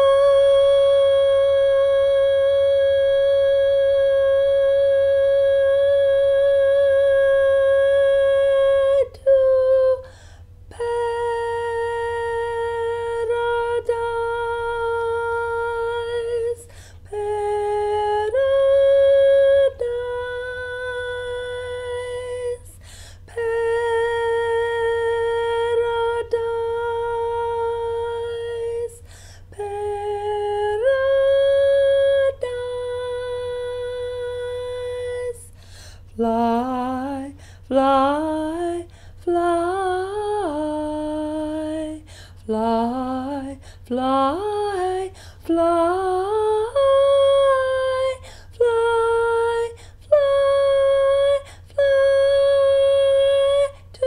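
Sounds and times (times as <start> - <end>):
woman singing high notes: 0.0 - 10.1, 10.7 - 29.0, 36.2 - 54.0.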